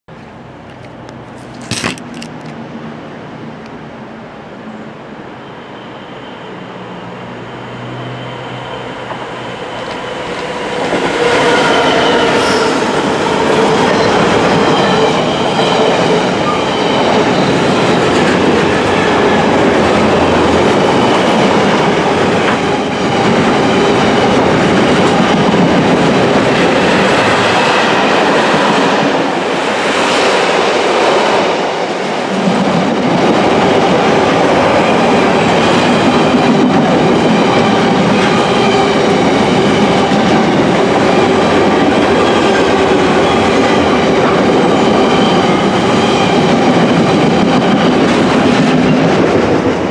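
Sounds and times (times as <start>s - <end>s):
diesel locomotive engine: 0.1s - 49.9s
train wheels rumbling over rail joints: 9.0s - 49.9s.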